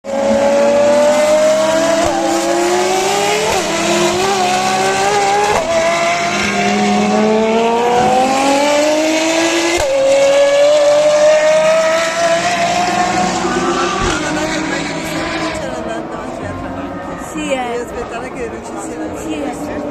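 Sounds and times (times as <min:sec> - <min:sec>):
car engine accelerating hard: 0:00.0 - 0:19.9.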